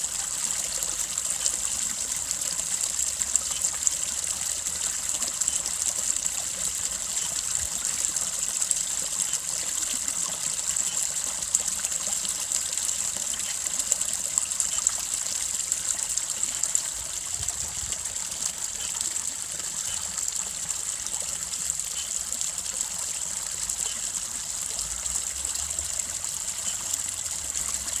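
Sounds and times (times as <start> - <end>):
brook babbling over stones: 0.0 - 28.0.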